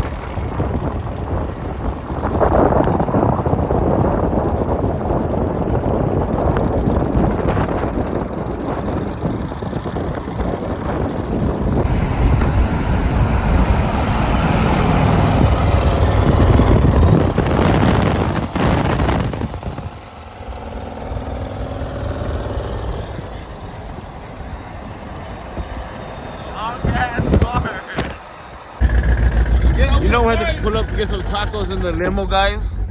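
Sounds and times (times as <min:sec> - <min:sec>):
car engine rumbling: 0:00.0 - 0:32.9
road and wind noise: 0:00.0 - 0:32.9.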